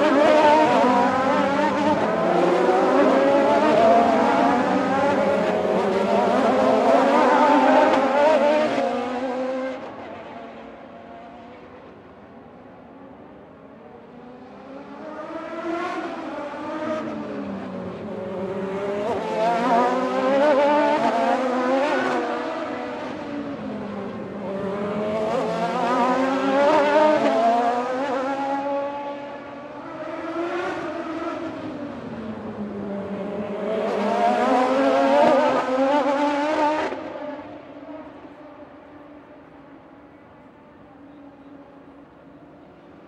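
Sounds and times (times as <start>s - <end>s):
racing car engines revving: 0.0s - 43.0s.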